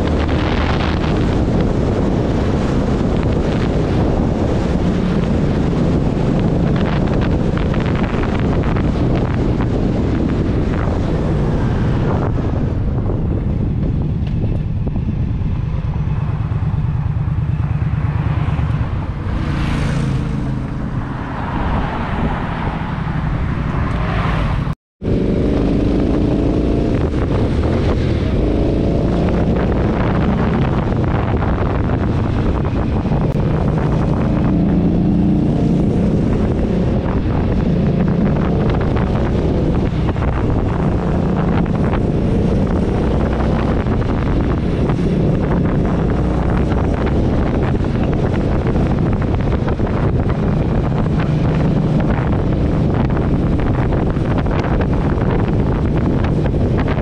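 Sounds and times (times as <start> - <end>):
motorcycle engine running: 0.0 - 21.0, 25.0 - 57.0
wind rushing over microphone: 0.0 - 57.0.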